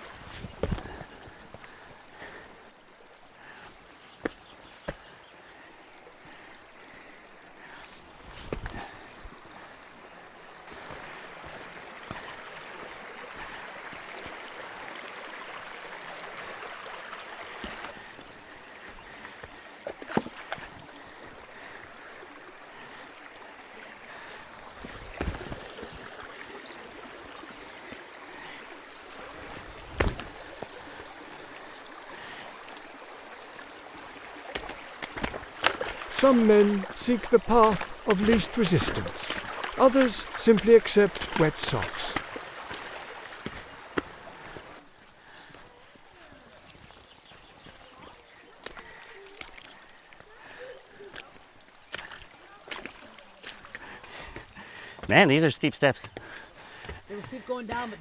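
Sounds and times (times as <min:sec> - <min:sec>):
creek water flowing over rocks: 0:00.0 - 0:58.0.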